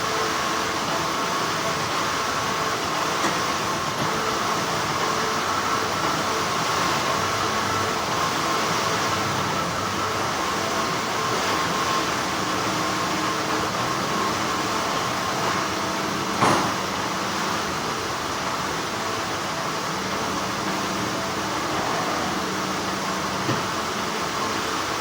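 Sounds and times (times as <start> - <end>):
factory machinery humming: 0.0 - 25.0.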